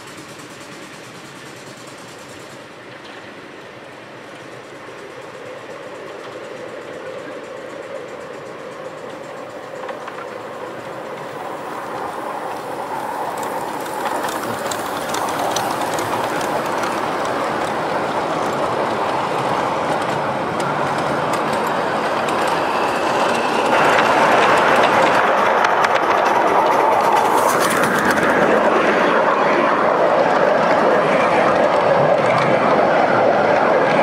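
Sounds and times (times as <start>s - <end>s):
train wheels on rail: 0.0s - 34.0s.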